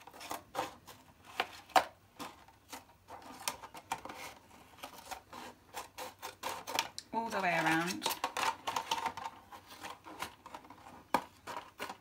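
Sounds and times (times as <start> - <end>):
scissors snipping plastic: 1.4 - 12.0.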